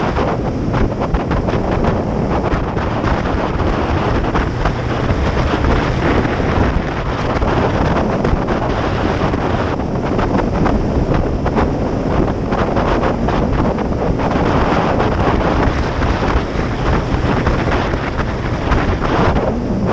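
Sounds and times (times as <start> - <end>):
motorcycle engine drone: 0.0 - 19.9
wind buffeting microphone: 0.0 - 19.9.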